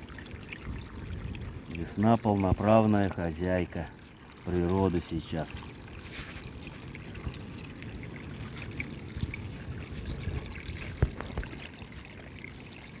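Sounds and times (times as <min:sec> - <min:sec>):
stream trickling and gurgling: 0:00.0 - 0:13.0.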